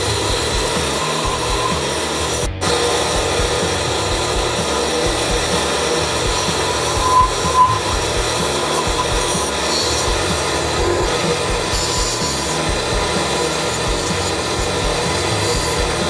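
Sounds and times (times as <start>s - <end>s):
chisel scraping turning wood: 0.0s - 4.0s, 4.6s - 16.0s
drill press motor running: 0.0s - 16.0s.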